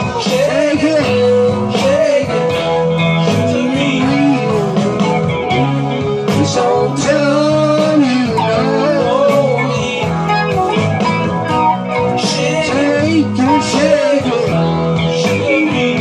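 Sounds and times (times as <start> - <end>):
band backing with bass and chords: 0.0 - 16.0
electric guitar lead line: 0.0 - 16.0.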